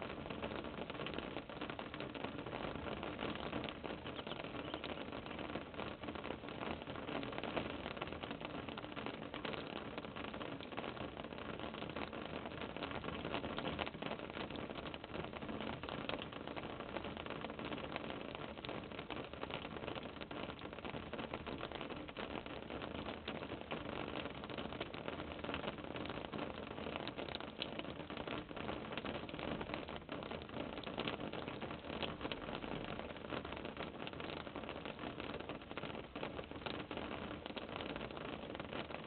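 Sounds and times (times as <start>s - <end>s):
camera microphone hiss: 0.0s - 39.0s.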